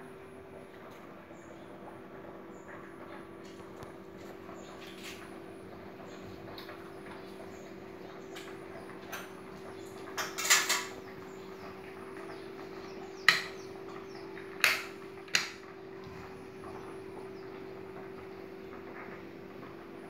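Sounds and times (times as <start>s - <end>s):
incubator humming: 0.0s - 20.0s.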